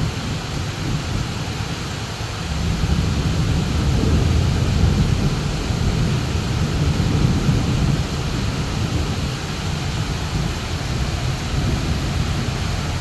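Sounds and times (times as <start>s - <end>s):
heavy rain pouring: 0.0s - 13.0s
rolling thunder: 2.5s - 13.0s.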